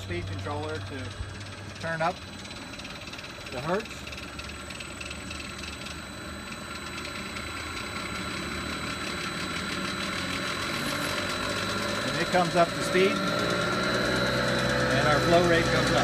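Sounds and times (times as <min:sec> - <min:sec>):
electric motor and pump running: 0:00.0 - 0:16.0.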